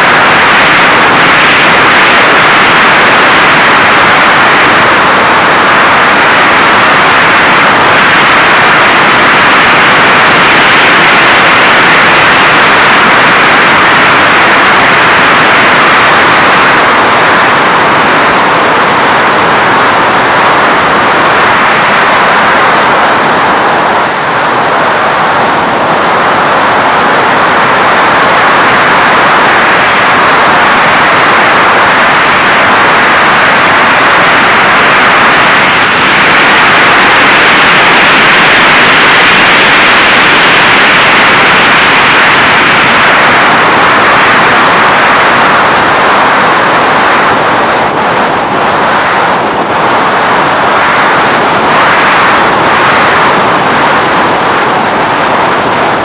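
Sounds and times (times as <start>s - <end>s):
airflow rush: 0.0s - 56.0s
propeller noise: 0.0s - 56.0s.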